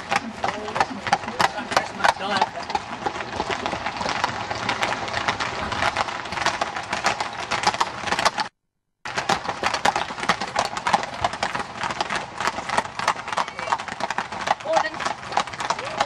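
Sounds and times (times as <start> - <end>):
horse hooves clattering: 0.0 - 8.5, 9.1 - 16.0.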